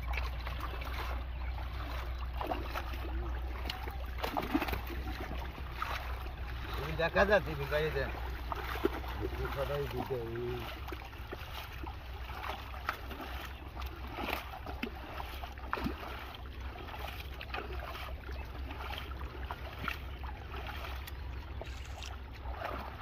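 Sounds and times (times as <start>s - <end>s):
low steady rumble: 0.0s - 23.0s
water splashing and trickling: 0.0s - 23.0s.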